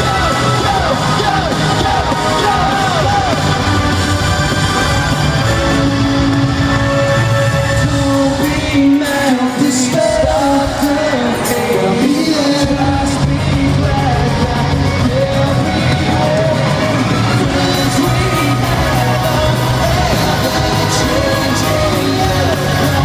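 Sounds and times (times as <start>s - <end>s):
person singing: 0.0s - 3.9s, 6.9s - 23.0s
pop-punk band playing live: 0.0s - 23.0s.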